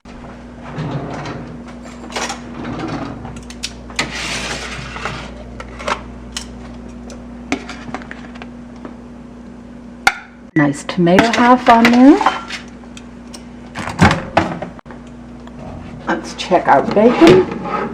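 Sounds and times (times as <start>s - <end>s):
steady low hum: 0.1s - 17.9s.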